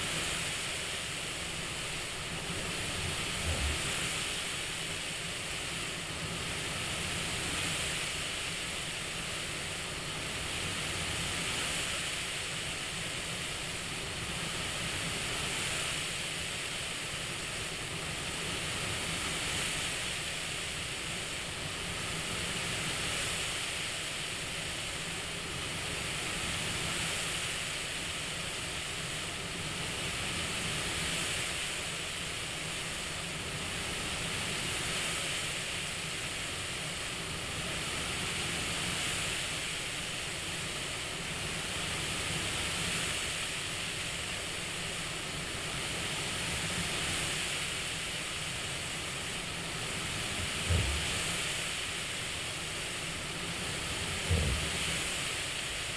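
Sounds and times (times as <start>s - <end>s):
airflow hiss: 0.0s - 55.9s.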